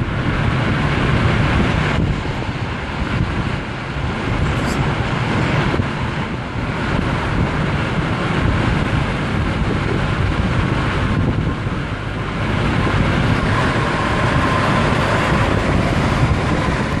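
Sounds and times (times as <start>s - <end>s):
car road and wind noise: 0.0s - 17.0s
wind buffeting microphone: 0.0s - 17.0s.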